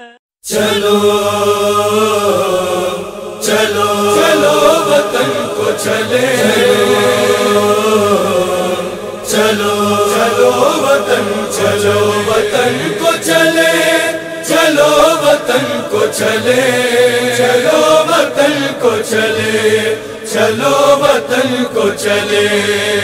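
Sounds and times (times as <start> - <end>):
chorus chanting a cappella: 0.0 - 23.0.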